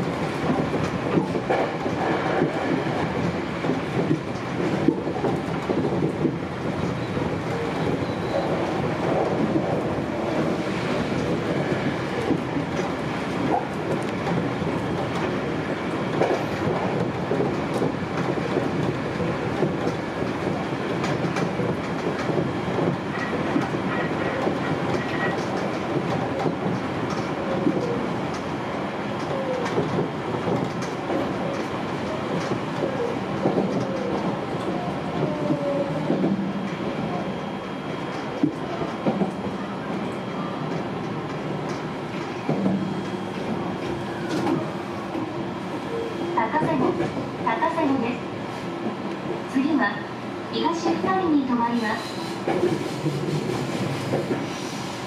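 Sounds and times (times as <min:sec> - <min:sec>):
clickety-clack over rail joints: 0:00.0 - 0:50.0, 0:50.7 - 0:55.0
train wheels rumbling on track: 0:00.0 - 0:55.0.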